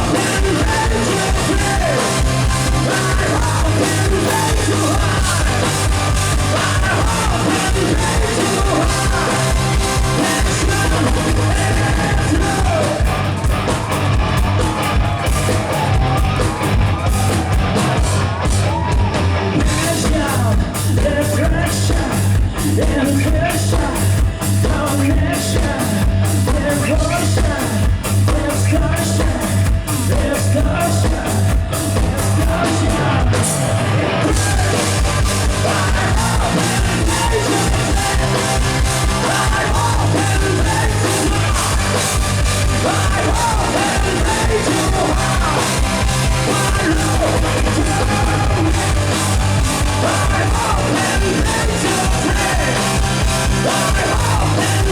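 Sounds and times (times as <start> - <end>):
singer's vocals: 0.0 - 13.3, 14.6 - 54.9
drums fast steady beat: 0.0 - 54.9
live rock band playing: 0.0 - 54.9.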